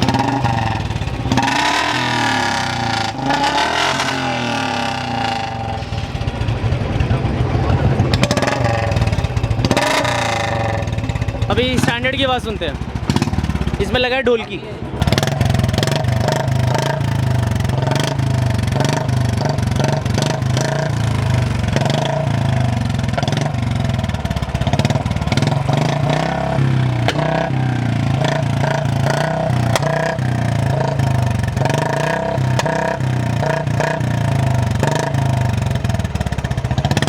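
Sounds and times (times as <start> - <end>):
motorcycle engine exhaust beat: 0.0 - 37.0.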